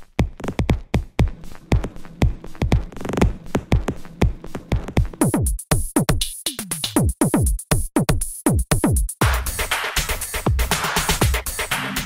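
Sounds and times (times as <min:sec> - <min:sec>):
electronic music with drum machine: 0:00.0 - 0:12.0.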